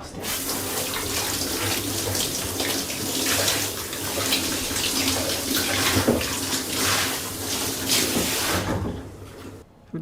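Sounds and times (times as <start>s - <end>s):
water running into a bathtub: 0.0s - 9.6s.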